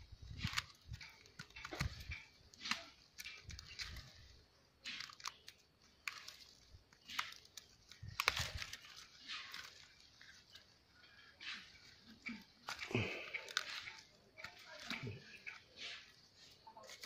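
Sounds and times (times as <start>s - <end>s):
rustling of dry leaves and twigs: 0.0s - 17.0s.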